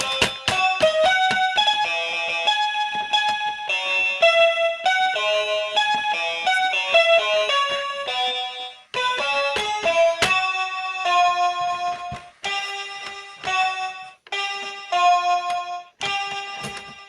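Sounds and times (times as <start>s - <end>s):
synthesizer playing simple melody: 0.0s - 17.0s.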